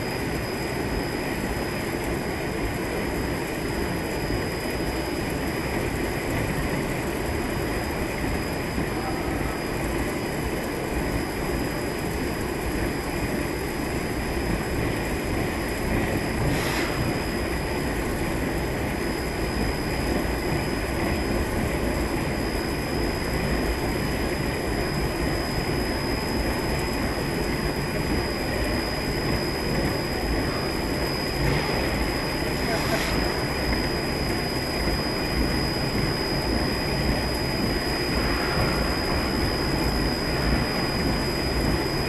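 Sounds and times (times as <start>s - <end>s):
high whine: 0.0s - 42.0s.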